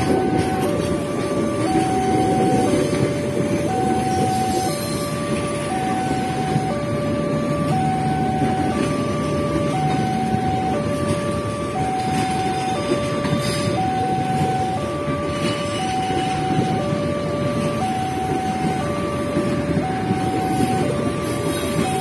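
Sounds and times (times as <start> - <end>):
level crossing two-tone alarm: 0.0 - 22.0
train coaches rumbling and clattering: 0.0 - 22.0.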